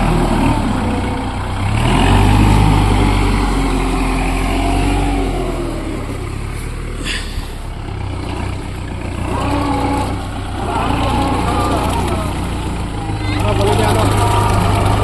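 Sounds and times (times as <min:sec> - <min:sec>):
tractor diesel engine revving: 0:00.0 - 0:15.0.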